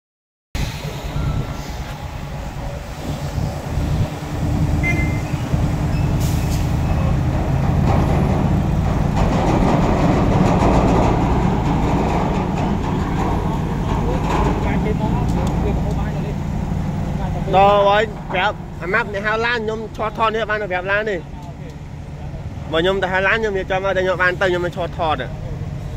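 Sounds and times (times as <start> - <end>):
heavy diesel engine running: 0.6 - 25.9.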